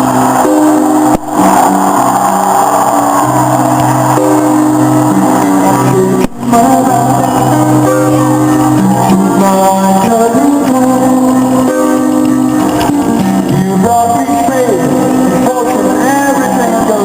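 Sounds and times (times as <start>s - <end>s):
song with singing and guitar: 0.0s - 17.0s.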